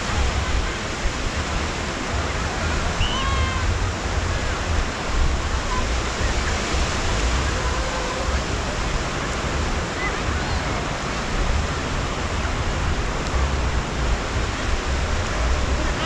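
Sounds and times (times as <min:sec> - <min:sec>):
surf washing in: 0:00.0 - 0:16.0
wind buffeting microphone: 0:00.0 - 0:16.0.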